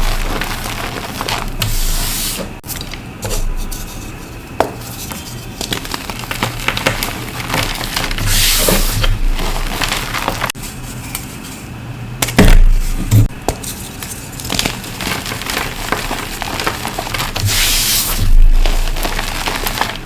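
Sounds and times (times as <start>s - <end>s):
chalk crunching and crackling: 0.0s - 11.6s, 13.6s - 20.0s.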